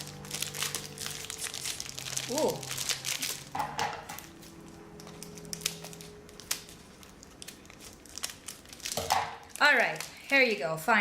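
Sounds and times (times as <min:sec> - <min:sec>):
snack package crinkling: 0:00.0 - 0:10.9.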